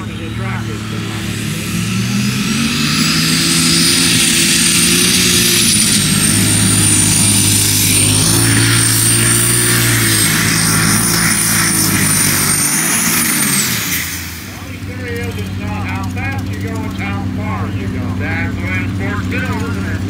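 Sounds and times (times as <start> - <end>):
high steady whine: 0.0 - 20.0
tractor engine at high revs: 0.0 - 20.0.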